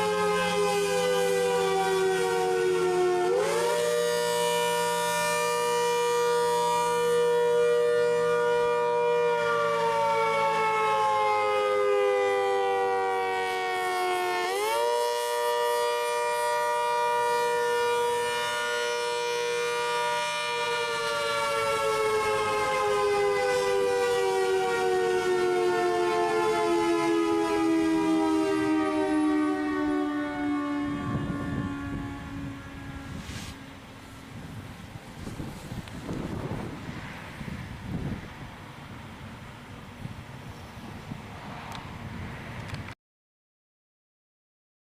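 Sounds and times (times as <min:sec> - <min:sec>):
warning siren wailing: 0:00.0 - 0:39.2.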